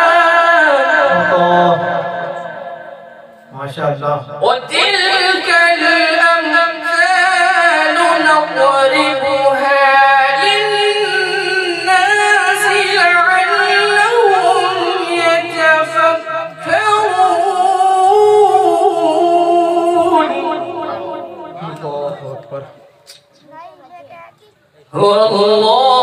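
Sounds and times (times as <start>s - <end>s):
man chanting into a microphone: 0.0s - 22.9s, 24.9s - 26.0s.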